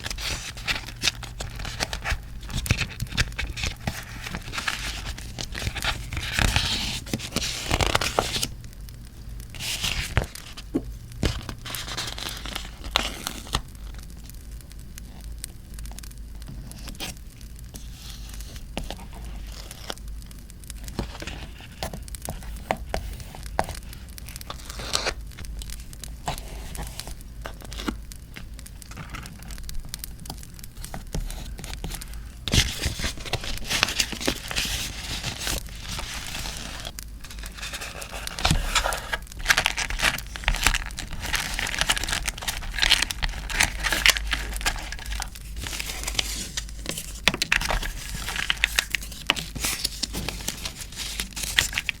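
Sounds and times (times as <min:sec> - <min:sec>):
paper crinkling and tearing: 0:00.0 - 0:08.6, 0:09.5 - 0:14.0, 0:16.6 - 0:20.0, 0:20.8 - 0:52.0.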